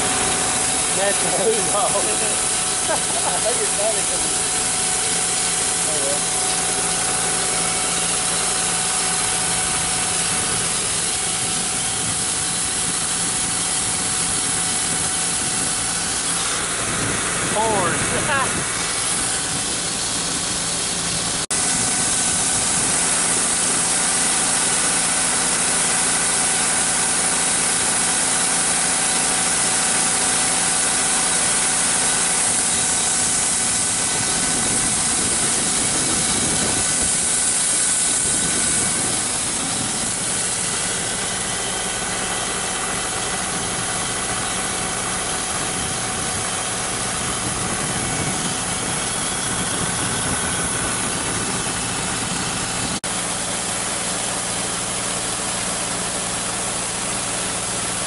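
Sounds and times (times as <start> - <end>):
engine running steadily: 0.0 - 58.0
grain pouring into hopper: 0.0 - 58.0.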